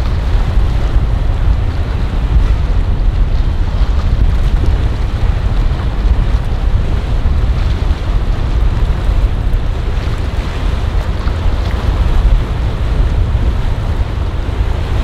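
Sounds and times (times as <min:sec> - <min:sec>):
boat bow wave and wake: 0:00.0 - 0:15.0
choppy water rushing: 0:00.0 - 0:15.0
wind buffeting microphone: 0:00.0 - 0:15.0.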